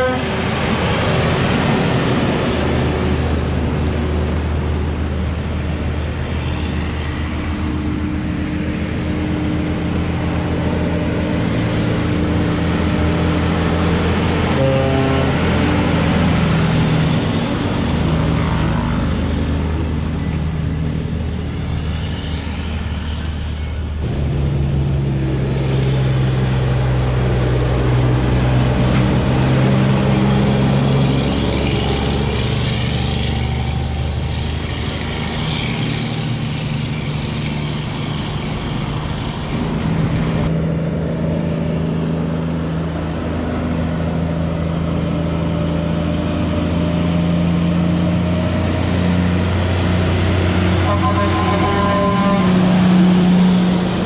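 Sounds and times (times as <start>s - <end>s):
diesel trucks passing: 0.0s - 54.0s.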